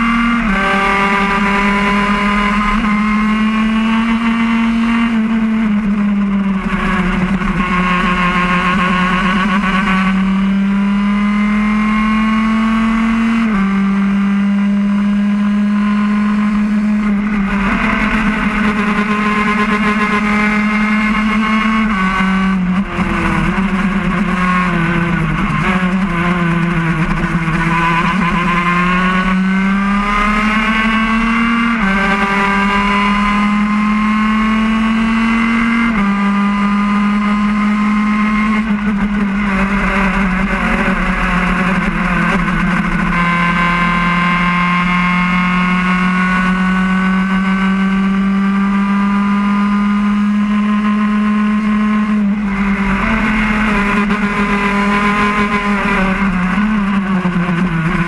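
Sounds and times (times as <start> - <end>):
kart engine at high revs: 0.0 - 58.0.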